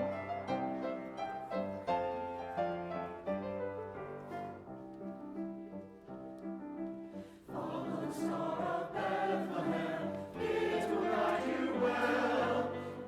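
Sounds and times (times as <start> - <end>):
piano playing: 0.0 - 13.0.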